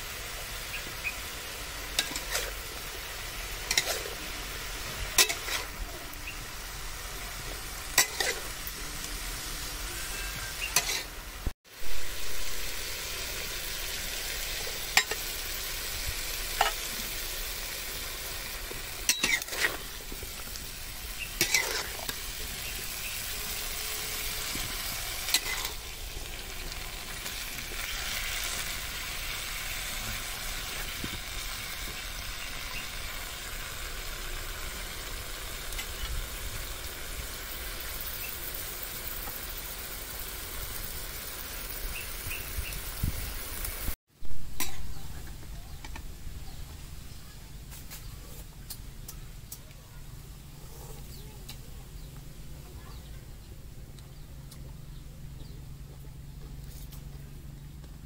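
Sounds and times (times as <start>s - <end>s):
food sizzling in a wok: 0.0s - 48.1s.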